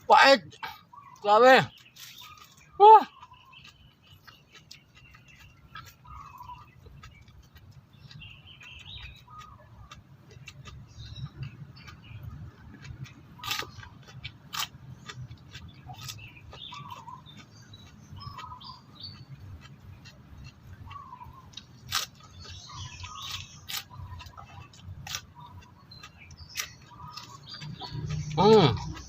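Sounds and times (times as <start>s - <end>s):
small birds chirping: 0.0s - 29.0s
chewing with crunches: 0.5s - 29.0s.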